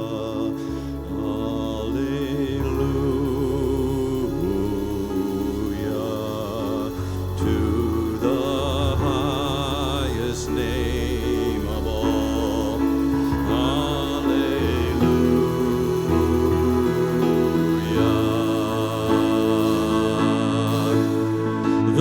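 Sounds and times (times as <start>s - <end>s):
slow worship music: 0.0s - 22.0s.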